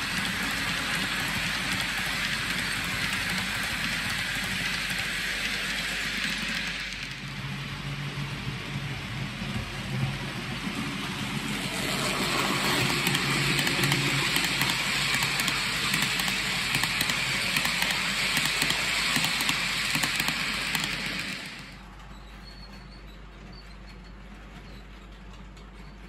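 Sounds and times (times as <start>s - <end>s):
model train wagons rolling on rails: 0.0s - 26.0s.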